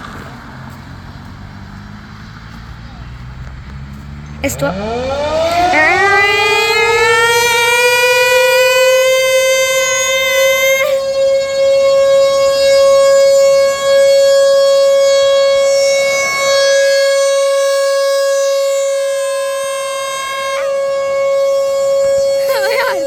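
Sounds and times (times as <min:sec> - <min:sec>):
warning siren steady high tone: 0:04.4 - 0:23.0.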